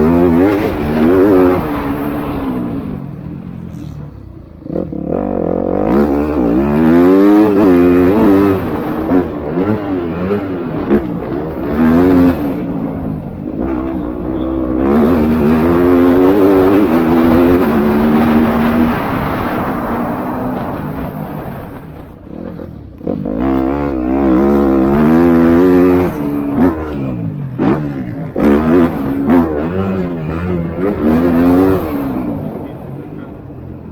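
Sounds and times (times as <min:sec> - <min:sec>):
motocross bikes revving past: 0:00.0 - 0:33.9.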